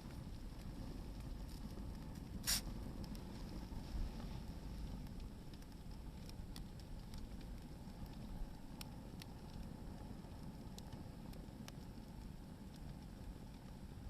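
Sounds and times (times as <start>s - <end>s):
wood crackling pops: 0.0s - 13.8s
bonfire burning: 0.0s - 14.0s.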